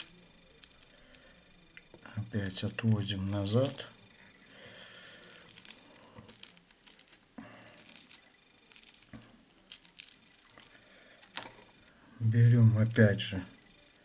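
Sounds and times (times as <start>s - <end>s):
plastic strip crinkling: 0.0s - 11.9s, 13.6s - 14.0s.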